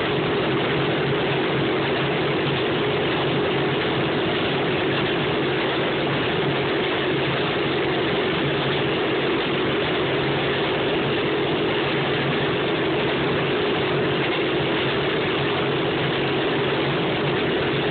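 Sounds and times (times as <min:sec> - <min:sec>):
rail motorcar engine running: 0:00.0 - 0:17.9.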